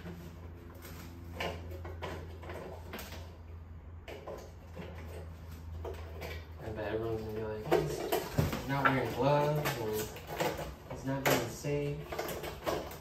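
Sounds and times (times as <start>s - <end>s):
clicks and scrapes of wiring: 0.0s - 13.0s.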